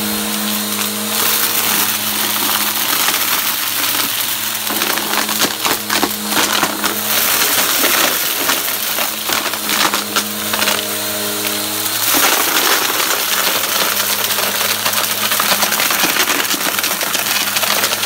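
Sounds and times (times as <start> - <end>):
debris rattling through vacuum: 0.0 - 18.0
vacuum cleaner running: 0.0 - 18.0.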